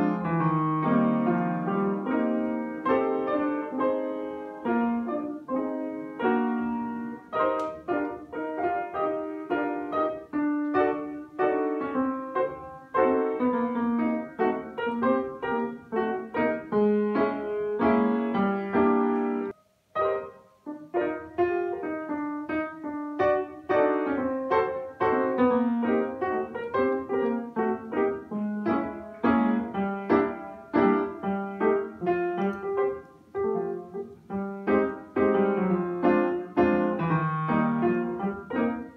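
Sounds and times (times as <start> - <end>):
upright piano playing: 0.0 - 38.9.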